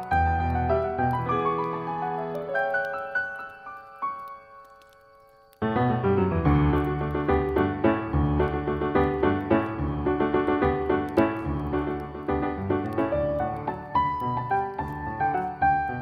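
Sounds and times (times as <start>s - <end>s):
campfire crackling: 0.0s - 16.0s
piano music: 0.0s - 16.0s.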